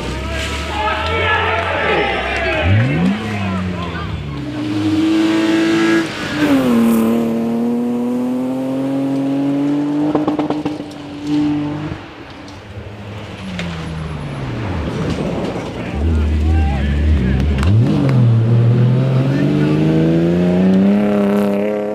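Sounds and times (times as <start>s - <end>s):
gear change: 0.0s - 21.6s
exhaust crackle: 0.0s - 21.9s
rally car engine revving: 0.0s - 21.9s.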